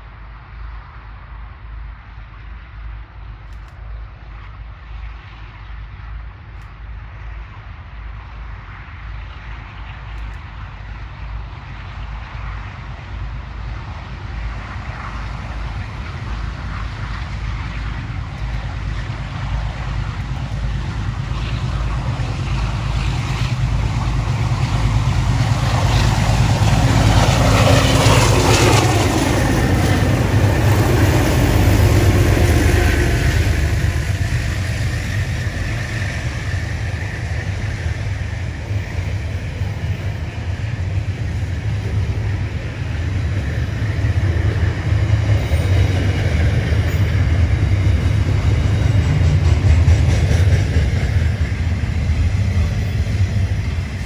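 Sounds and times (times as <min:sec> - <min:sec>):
freight train wagons rumbling: 0:01.6 - 0:54.0.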